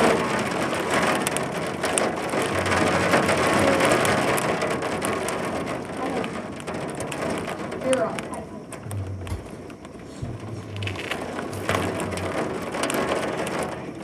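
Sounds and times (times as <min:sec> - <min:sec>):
rain on a hard surface: 0:00.0 - 0:14.0.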